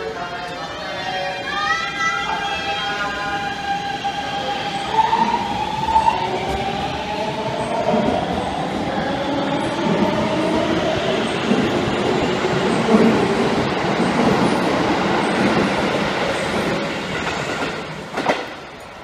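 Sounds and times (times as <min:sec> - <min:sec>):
train wheels rumbling on rails: 0:03.2 - 0:19.0.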